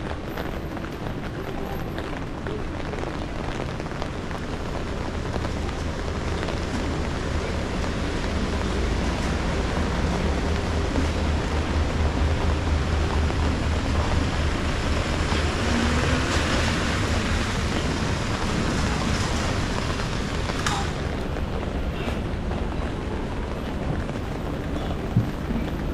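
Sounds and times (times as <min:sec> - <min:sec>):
rain hissing: 0:00.1 - 0:25.9.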